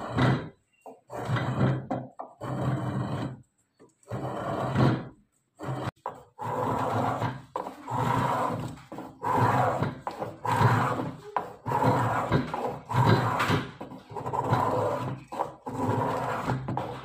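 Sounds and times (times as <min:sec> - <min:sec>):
spokeshave scraping wood: 0:00.0 - 0:17.0.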